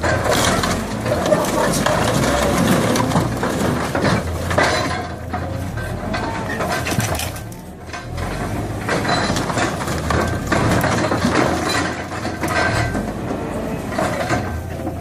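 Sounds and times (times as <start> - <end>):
heavy machinery engine running: 0.0 - 15.0
metallic clanking and scraping: 0.0 - 15.0.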